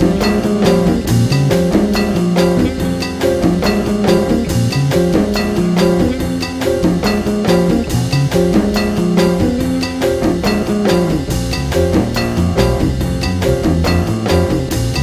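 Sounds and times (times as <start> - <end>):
instrumental music with drum beat: 0.0 - 15.0.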